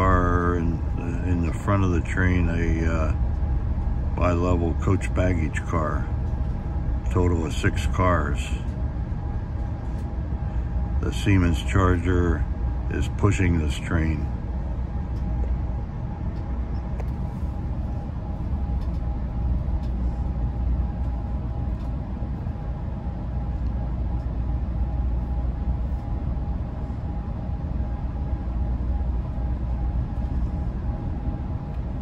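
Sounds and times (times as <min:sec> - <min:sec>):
faint steady hum: 0:00.0 - 0:32.0
railcar rumbling on track: 0:00.0 - 0:32.0.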